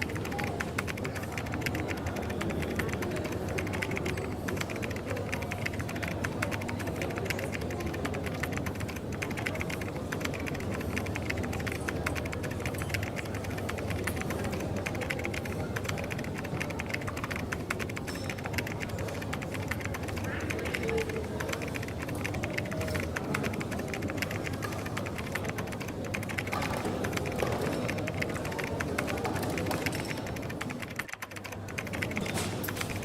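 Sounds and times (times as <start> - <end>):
coffee shop background: 0.0 - 33.0
keyboard typing: 0.0 - 33.0.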